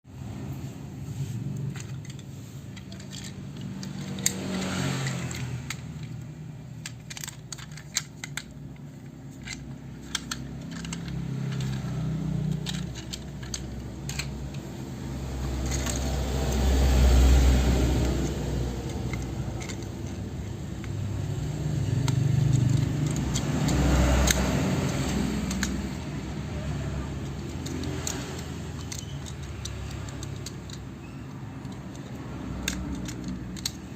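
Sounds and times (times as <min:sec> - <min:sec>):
plastic toy parts clicking: 0:01.5 - 0:33.9.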